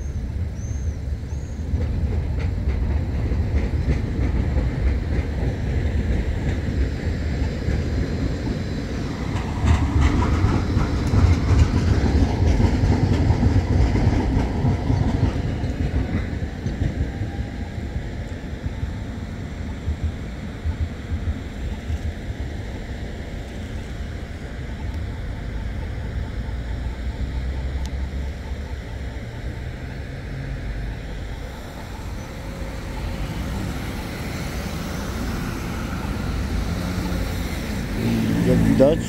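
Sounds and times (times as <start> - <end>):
rumble of passing cars: 0.0 - 39.0.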